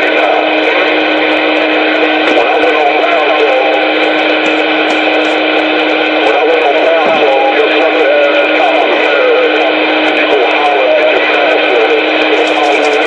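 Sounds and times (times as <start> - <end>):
garbled radio signal: 0.0 - 13.0
radio static and hum: 0.0 - 13.0.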